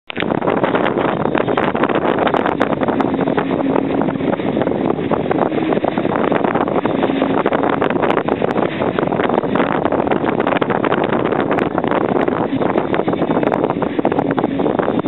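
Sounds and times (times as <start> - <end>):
water splashing along hull: 0.0 - 15.0
wind buffeting microphone: 0.1 - 15.0.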